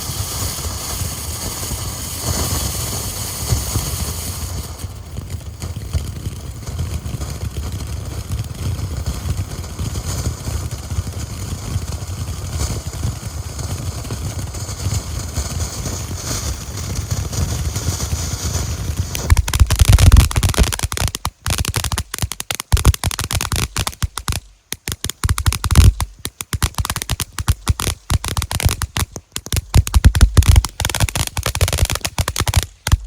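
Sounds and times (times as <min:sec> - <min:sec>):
firework fountain hissing sparks: 0:00.0 - 0:33.0
sharp firework cracks: 0:00.0 - 0:33.0.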